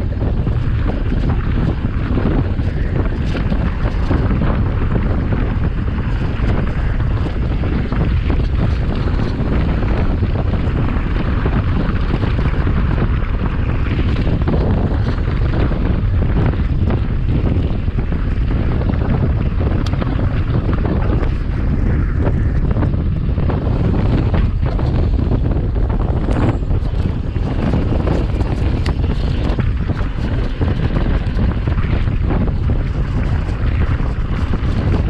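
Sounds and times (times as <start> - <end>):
bike clicks and rattles: 0.0 - 35.0
wind buffeting microphone: 0.0 - 35.0.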